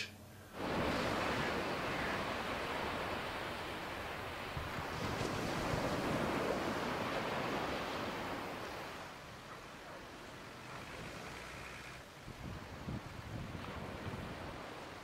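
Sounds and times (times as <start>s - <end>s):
sea waves breaking on beach: 0.6s - 15.0s.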